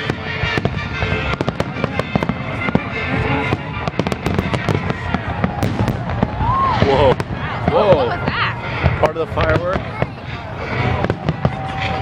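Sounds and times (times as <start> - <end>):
fireworks bangs: 0.0 - 12.0
fireworks crackling and popping: 0.0 - 12.0.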